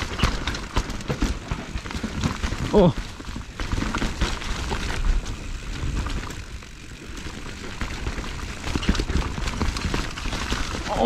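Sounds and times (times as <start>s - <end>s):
bike knocking and rattling: 0.0s - 11.0s.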